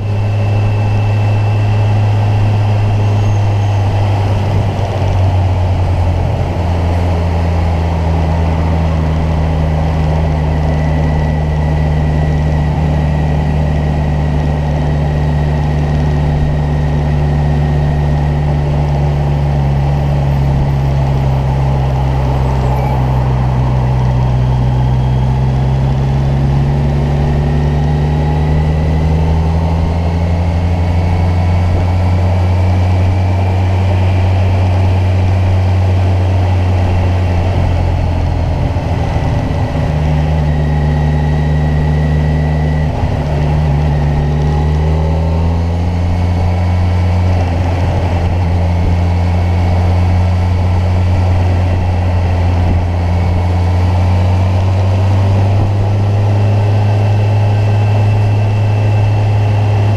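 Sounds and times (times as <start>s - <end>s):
motorcycle engine riding along: 0.0s - 59.9s
road and wind noise: 0.0s - 59.9s.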